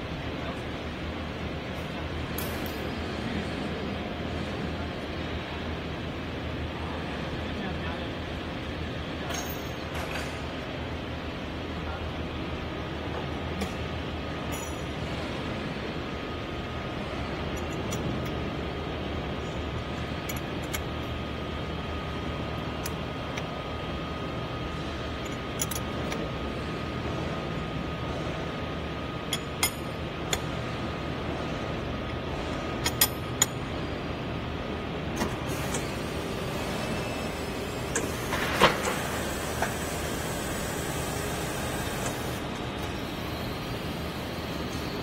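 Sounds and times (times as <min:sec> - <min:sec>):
machine hum with high whine: 0:00.0 - 0:45.0.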